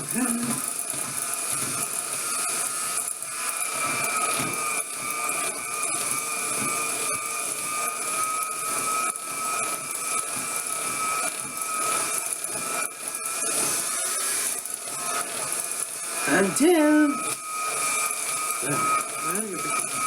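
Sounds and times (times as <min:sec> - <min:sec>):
electric hand mixer whining: 0:00.0 - 0:20.0.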